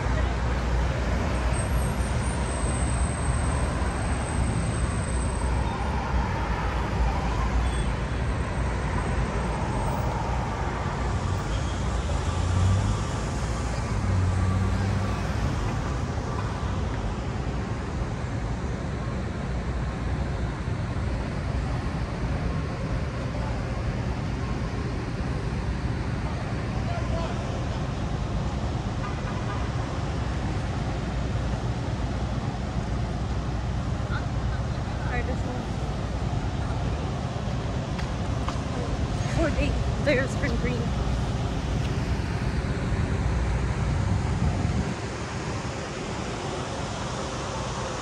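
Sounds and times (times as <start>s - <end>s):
cars driving past: 0.0s - 48.0s.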